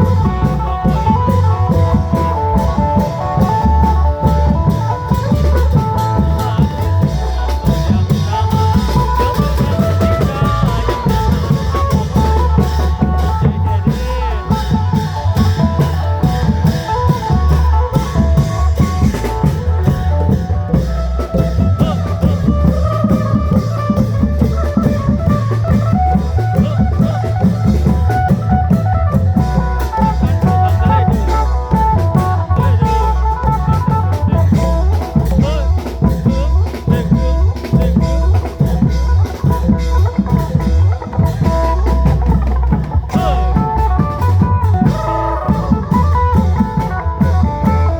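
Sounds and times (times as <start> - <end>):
drums beating: 0.0 - 47.9.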